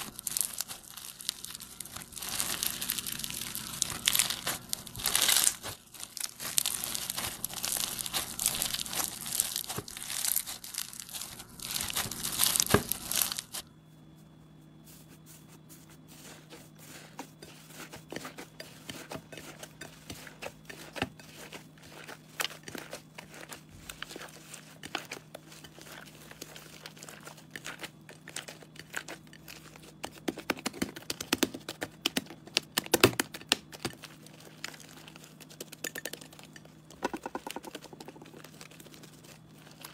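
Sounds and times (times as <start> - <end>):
foam bead slime crunching: 0.0 - 13.6, 14.9 - 31.3, 33.6 - 39.9.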